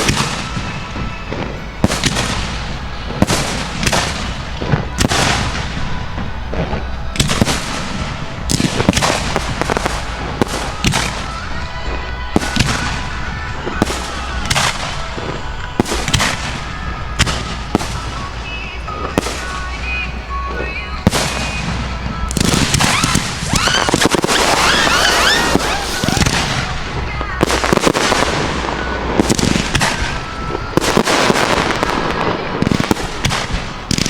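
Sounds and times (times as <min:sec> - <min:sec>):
continuous rumble: 0:00.0 - 0:34.0
fireworks bangs and booms: 0:00.0 - 0:34.0.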